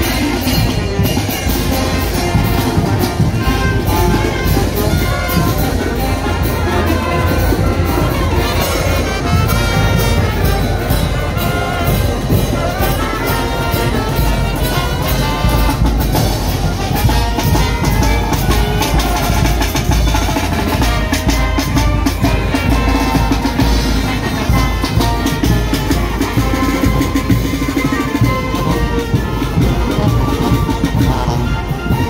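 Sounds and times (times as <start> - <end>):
bass drum beat: 0.0 - 32.0
marching brass band playing: 0.0 - 32.0.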